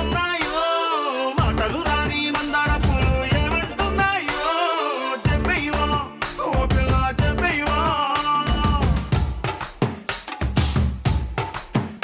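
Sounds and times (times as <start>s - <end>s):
song with singing over drums and bass: 0.0s - 12.0s.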